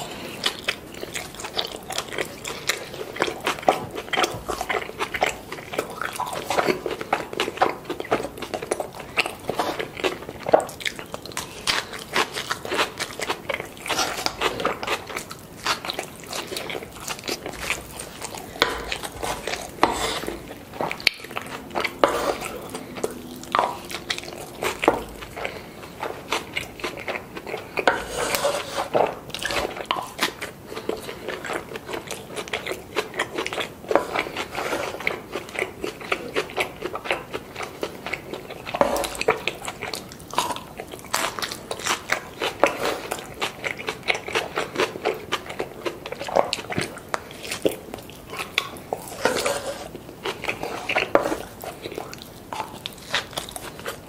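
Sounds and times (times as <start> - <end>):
close-miked chewing and crunching: 0.0 - 54.0.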